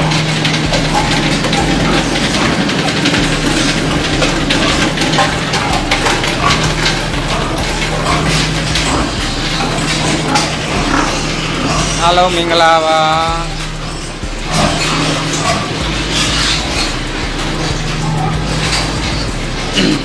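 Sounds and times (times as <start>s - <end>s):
low machine hum: 0.0s - 20.0s
metal crates clinking and rattling: 0.0s - 20.0s.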